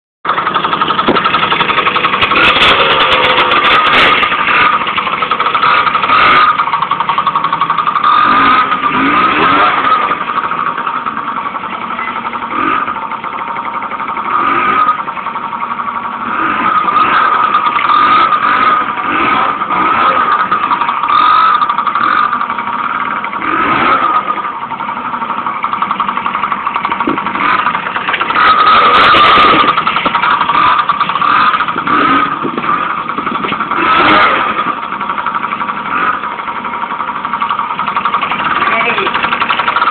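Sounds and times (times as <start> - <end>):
mini motorbike engine: 0.3 - 39.9.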